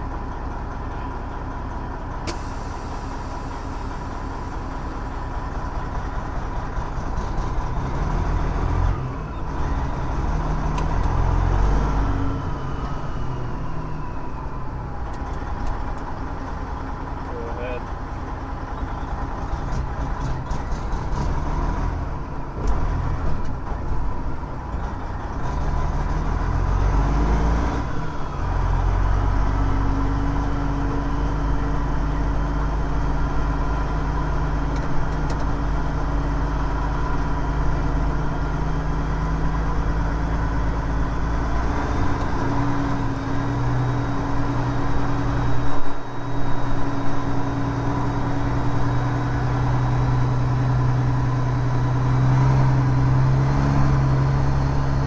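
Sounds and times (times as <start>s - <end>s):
truck diesel engine droning: 0.0s - 55.0s.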